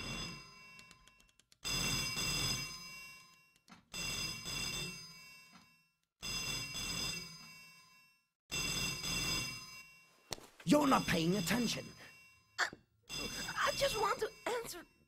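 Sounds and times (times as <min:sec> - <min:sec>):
telephone bell ringing: 0:00.0 - 0:15.0.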